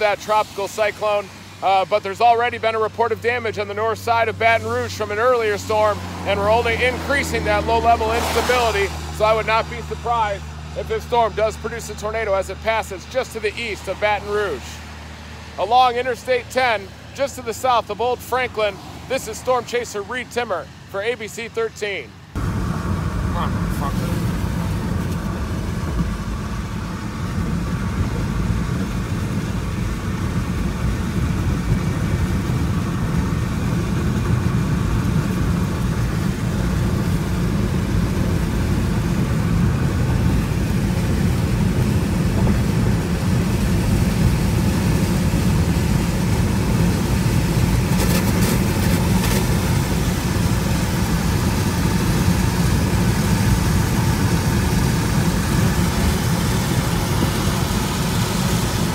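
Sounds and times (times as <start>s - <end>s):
car road noise on wet road: 0.0s - 58.9s.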